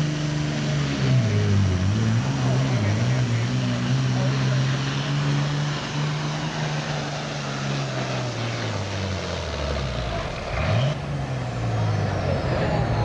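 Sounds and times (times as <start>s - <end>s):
engine revving: 0.0s - 13.0s
tractor diesel engine running hard: 0.0s - 13.0s.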